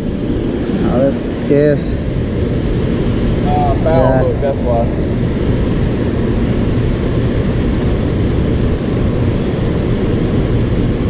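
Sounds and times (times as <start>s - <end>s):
river water roaring through dam spillway: 0.0s - 11.0s.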